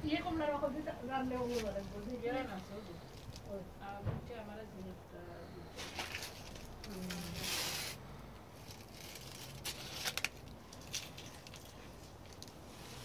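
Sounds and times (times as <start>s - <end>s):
leaves rustling against phone: 0.2s - 13.0s.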